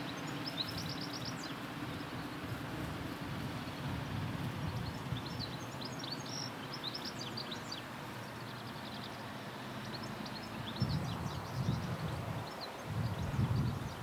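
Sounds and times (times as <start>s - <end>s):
songbirds chirping and twittering: 0.0s - 14.0s
wind hiss: 0.0s - 14.0s.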